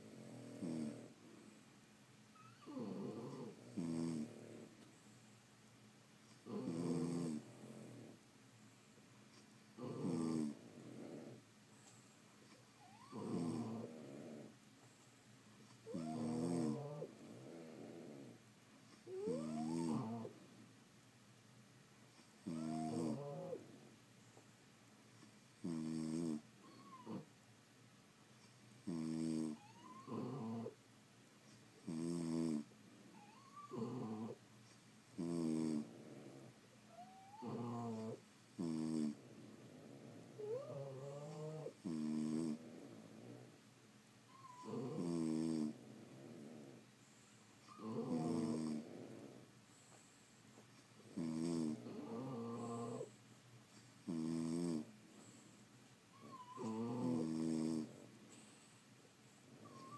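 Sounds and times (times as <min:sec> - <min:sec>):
dogs snoring: 0:00.0 - 0:01.5, 0:02.3 - 0:05.0, 0:06.3 - 0:08.2, 0:09.3 - 0:14.6, 0:15.6 - 0:20.5, 0:22.1 - 0:24.0, 0:25.2 - 0:27.4, 0:28.4 - 0:30.8, 0:31.5 - 0:34.4, 0:35.1 - 0:43.6, 0:44.3 - 0:59.9.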